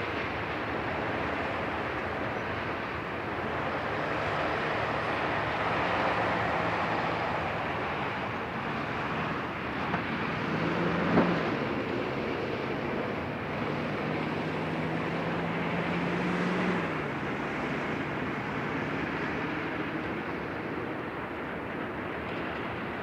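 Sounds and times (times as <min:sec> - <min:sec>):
freight train rumble: 0:00.0 - 0:23.0
truck engine hum: 0:00.0 - 0:23.0.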